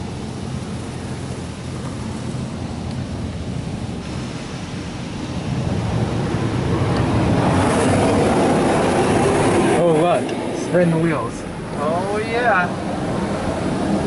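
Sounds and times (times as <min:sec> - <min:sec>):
water spray hissing on car: 0:00.0 - 0:14.0.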